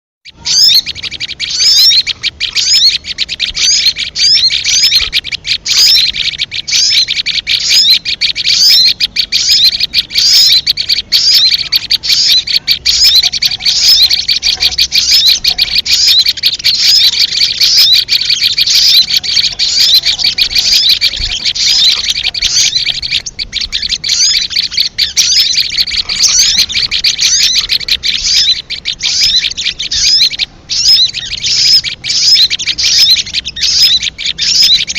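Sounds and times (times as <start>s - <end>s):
bird chirping and trilling: 0.2s - 34.9s.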